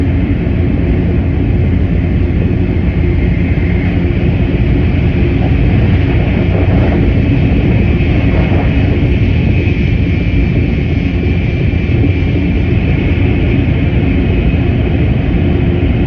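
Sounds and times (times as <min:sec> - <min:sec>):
train running at speed: 0:00.0 - 0:16.0.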